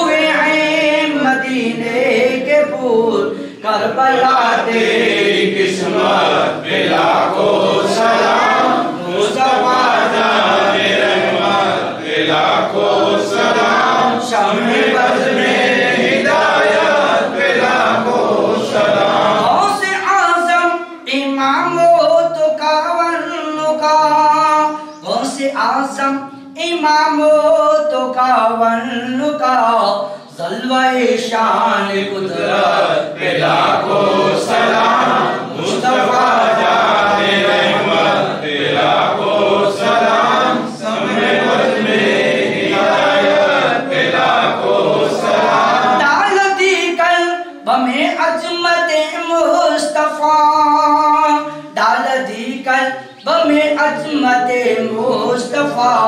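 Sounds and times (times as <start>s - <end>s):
men chanting in unison: 0.0s - 56.0s.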